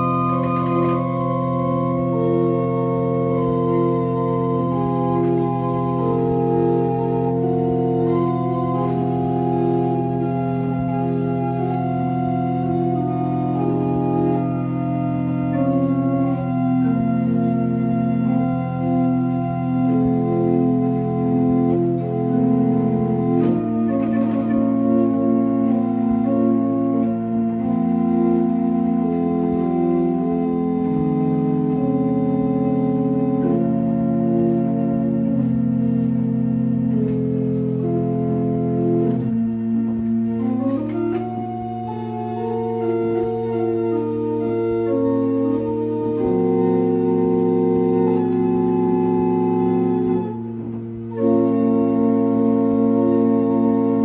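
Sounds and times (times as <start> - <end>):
chamber organ playing chords: 0.0 - 54.0.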